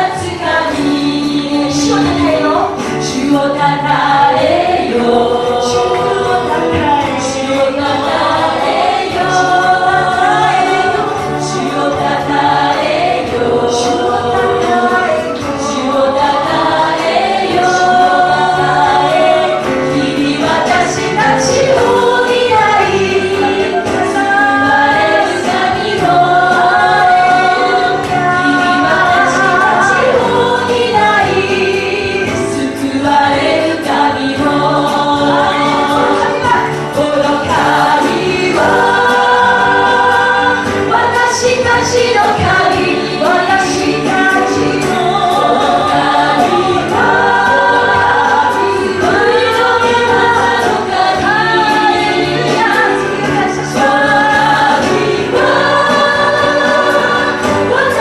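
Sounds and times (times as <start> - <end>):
female voices singing in unison: 0.0 - 58.0
guitars: 0.0 - 58.0
piano: 0.0 - 58.0.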